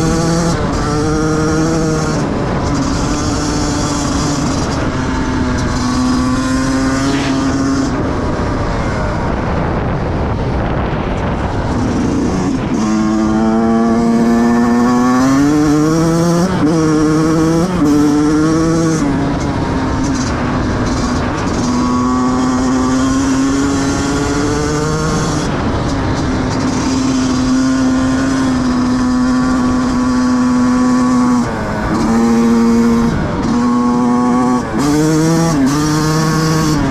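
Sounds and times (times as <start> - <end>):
motocross bike engine revving: 0.0 - 9.4, 11.4 - 36.9.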